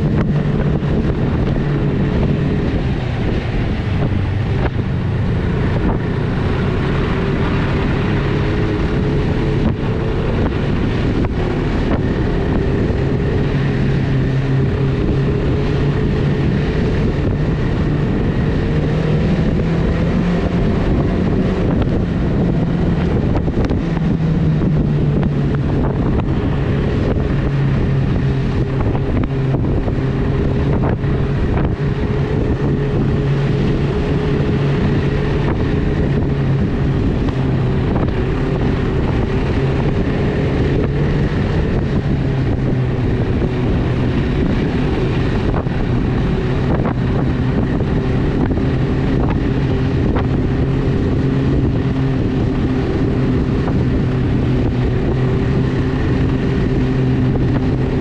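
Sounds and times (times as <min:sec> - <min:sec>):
snowmobile engine running: 0:00.0 - 0:58.0
wind noise on microphone: 0:00.0 - 0:58.0.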